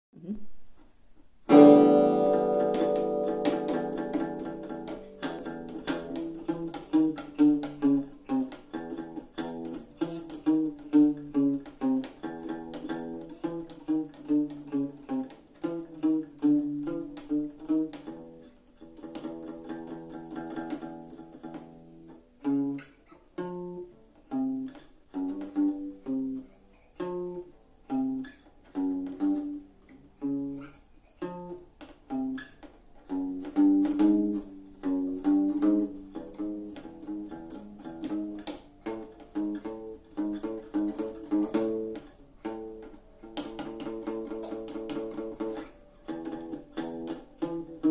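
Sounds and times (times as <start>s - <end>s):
acoustic guitar picked notes: 1.5s - 47.9s.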